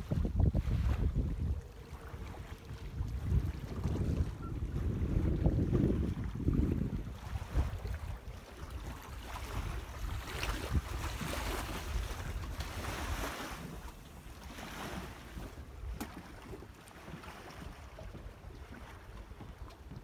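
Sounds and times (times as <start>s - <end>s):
lake waves lapping: 0.0s - 20.0s
wind buffeting microphone: 0.0s - 20.0s.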